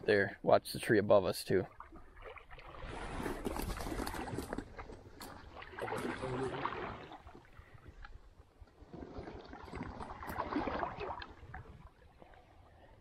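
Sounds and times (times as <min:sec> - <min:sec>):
stream water sloshing and splashing: 0:01.5 - 0:13.0.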